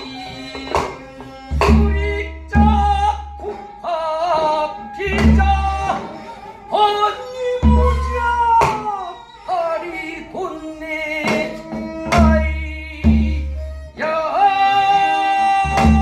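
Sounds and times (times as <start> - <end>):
person singing folk song: 0.0 - 16.0.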